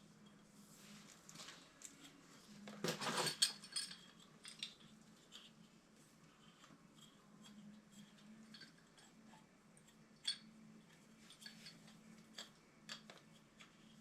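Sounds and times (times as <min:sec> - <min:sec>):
faint low hum: 0:00.0 - 0:14.0
small parts and tools clicking: 0:01.8 - 0:05.7, 0:06.4 - 0:14.0.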